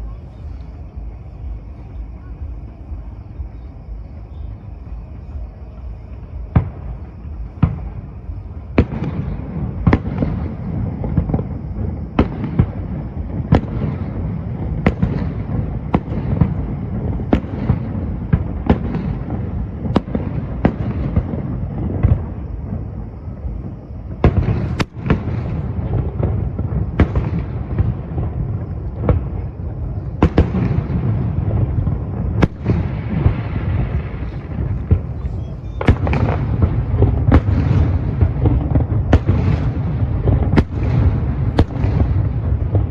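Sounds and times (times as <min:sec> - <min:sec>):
firework bangs: 0:00.0 - 0:42.9
low rumble of exploding shells: 0:00.0 - 0:42.9.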